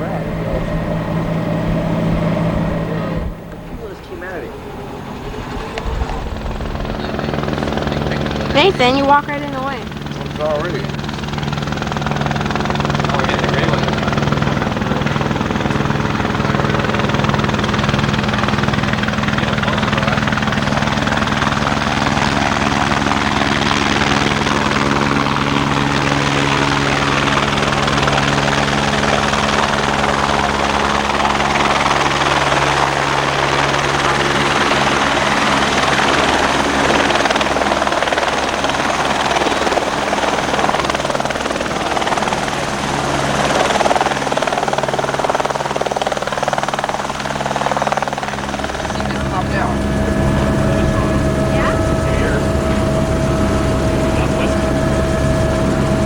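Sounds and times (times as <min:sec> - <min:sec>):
helicopter engine and rotor drone: 0:00.0 - 0:56.0
low hum: 0:00.0 - 0:56.0.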